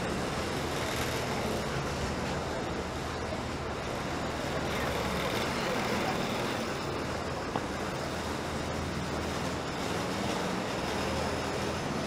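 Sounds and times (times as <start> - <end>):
bus engines humming: 0.0 - 12.0
city street traffic: 0.0 - 12.0.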